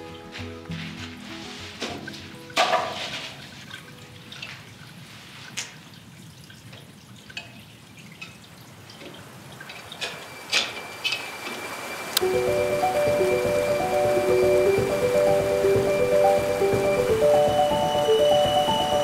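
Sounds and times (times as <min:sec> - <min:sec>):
water dripping in echoing space: 0:02.4 - 0:19.0.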